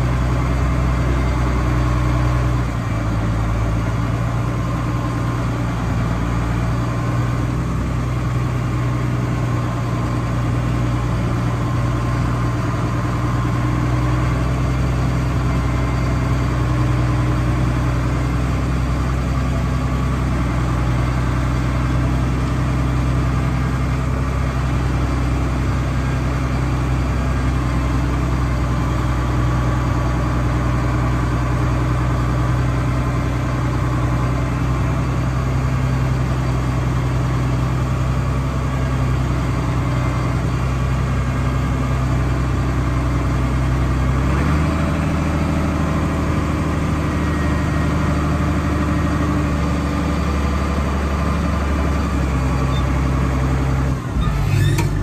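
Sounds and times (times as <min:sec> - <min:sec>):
tractor engine humming: 0:00.0 - 0:55.0.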